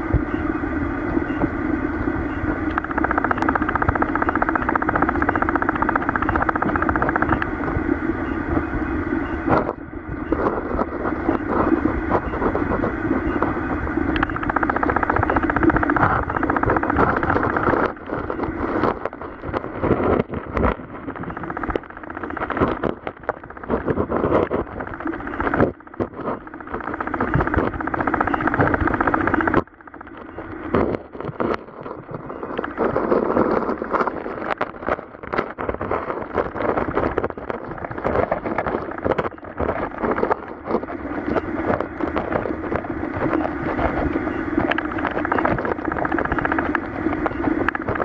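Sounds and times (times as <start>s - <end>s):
underwater rush of flowing water: 0.0s - 48.0s
fine crackle: 0.8s - 48.0s.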